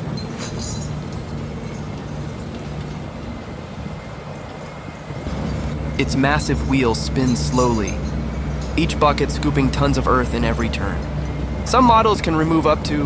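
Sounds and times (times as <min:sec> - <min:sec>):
heavy machinery rumbling: 0:00.0 - 0:13.0.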